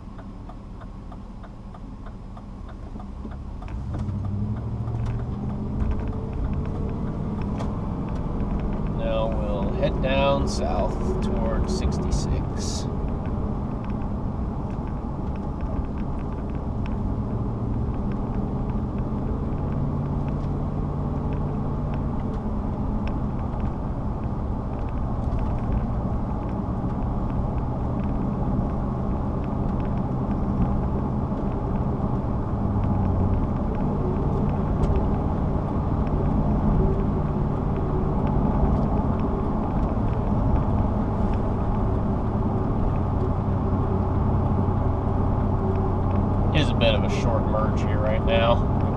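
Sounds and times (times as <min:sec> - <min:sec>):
car engine and tyre noise: 0:00.0 - 0:48.9.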